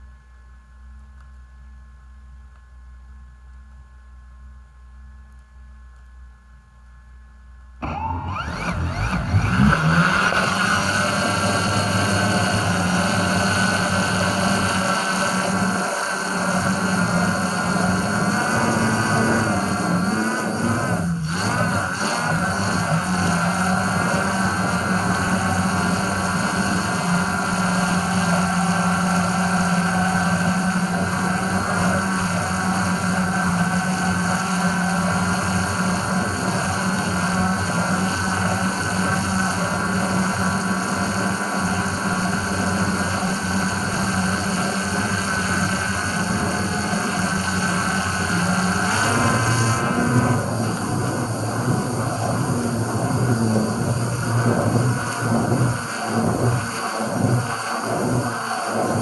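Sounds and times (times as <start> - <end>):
drone propellers humming: 0.0 - 59.0.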